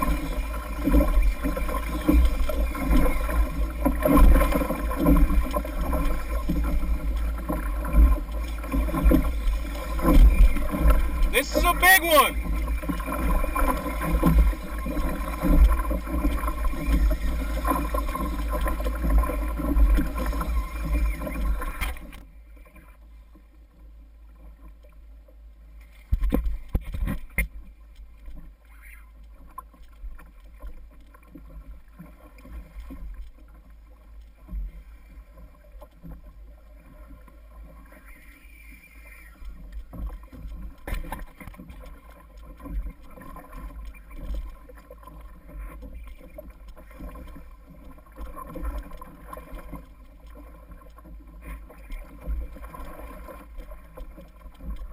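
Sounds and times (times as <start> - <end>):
water splashing against hull: 0.0 - 54.9.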